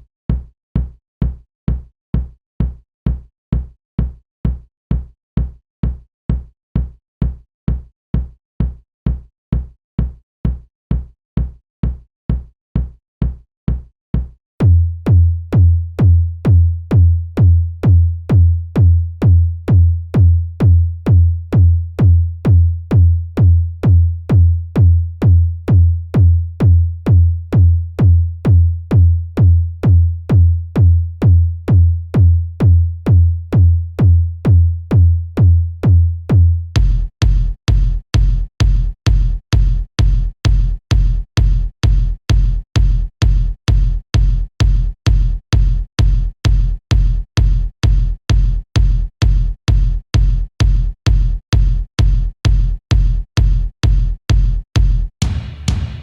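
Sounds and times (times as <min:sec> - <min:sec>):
electronic kick drum beat: 0:00.0 - 0:56.0.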